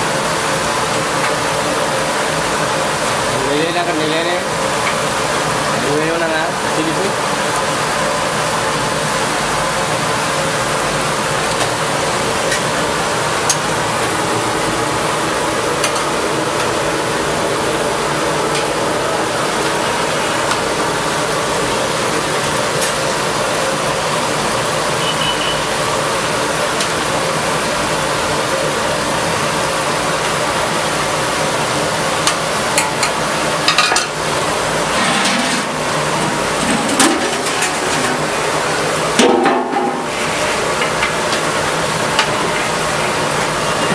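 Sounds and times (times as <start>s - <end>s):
chicken deep-frying in oil: 0.0s - 43.9s.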